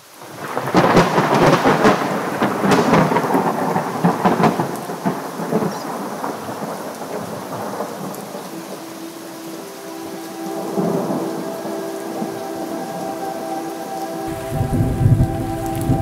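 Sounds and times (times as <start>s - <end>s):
steady rain: 0.0s - 16.0s
thunder rumbling: 0.3s - 16.0s.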